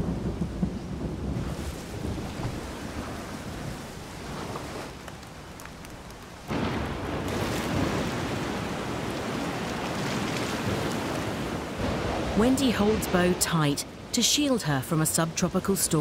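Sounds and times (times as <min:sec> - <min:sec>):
steady rain: 0:00.0 - 0:16.0
wind: 0:00.0 - 0:16.0.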